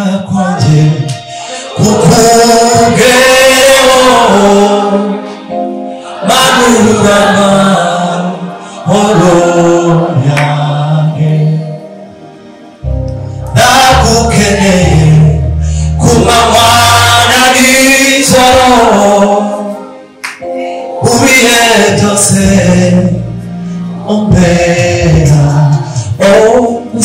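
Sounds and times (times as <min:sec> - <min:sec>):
man singing gospel: 0:00.0 - 0:11.8, 0:13.4 - 0:20.1, 0:20.8 - 0:27.0
voices singing along: 0:00.0 - 0:27.0
sustained low instrumental notes: 0:00.3 - 0:27.0.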